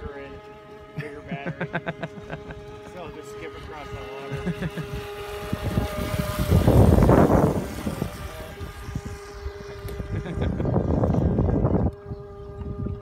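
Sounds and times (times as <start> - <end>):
small boat motor whining: 0.0 - 13.0.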